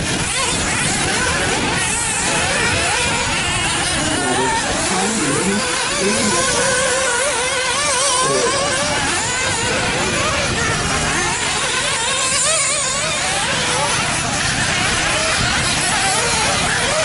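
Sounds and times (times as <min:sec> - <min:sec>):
small engines revving: 0:00.0 - 0:17.0.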